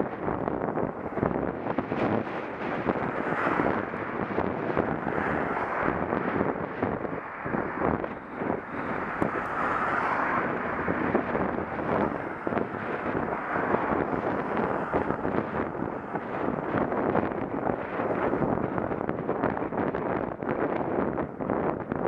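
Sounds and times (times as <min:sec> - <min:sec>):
road rumble: 0:00.0 - 0:22.0
wind buffeting microphone: 0:00.0 - 0:22.0.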